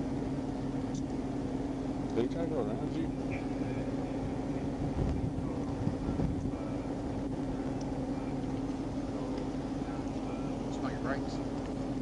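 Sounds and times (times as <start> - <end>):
vehicle engine idling: 0.0 - 12.0
faint low bumps: 2.1 - 12.0.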